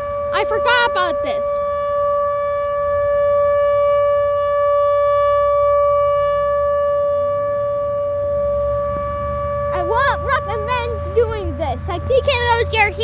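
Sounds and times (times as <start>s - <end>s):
siren steady high-pitched tone: 0.0s - 13.0s.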